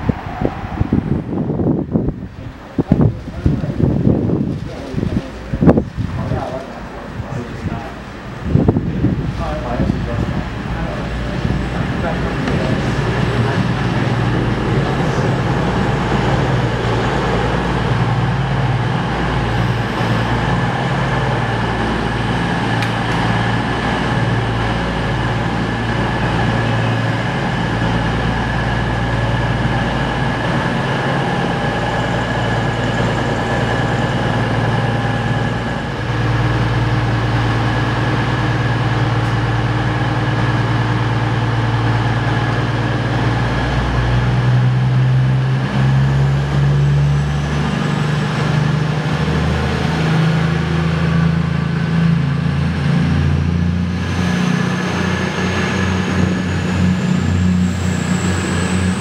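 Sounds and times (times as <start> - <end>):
diesel train engine hum: 0.0 - 59.0
thin high whine: 9.4 - 59.0.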